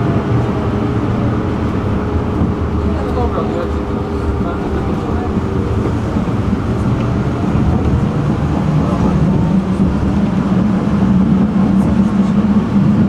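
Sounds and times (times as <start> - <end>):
tram motor hum rising: 0.0 - 13.0
tram rumbling on track: 0.0 - 13.0.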